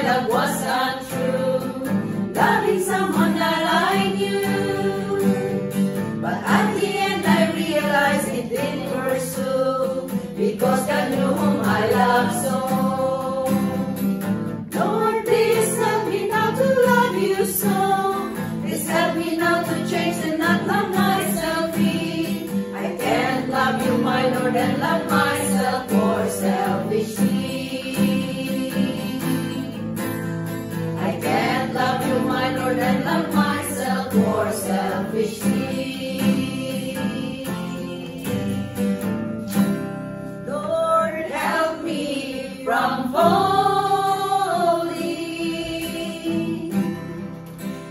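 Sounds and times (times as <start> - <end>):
women singing gospel: 0.0 - 29.8, 30.9 - 38.5, 40.5 - 47.3
acoustic guitar: 0.0 - 47.9.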